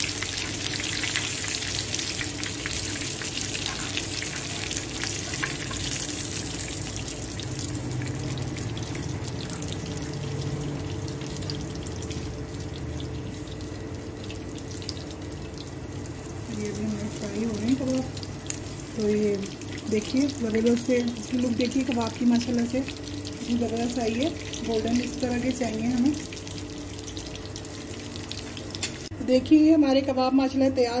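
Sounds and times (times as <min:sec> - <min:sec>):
meat sizzling in hot oil: 0:00.0 - 0:29.1.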